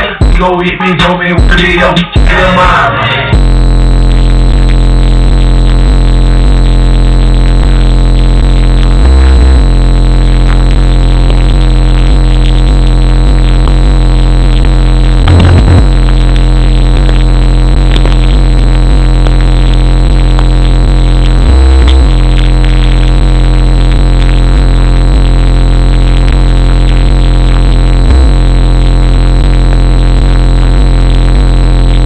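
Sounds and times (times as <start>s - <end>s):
distorted bass-heavy music: 0.0s - 32.0s.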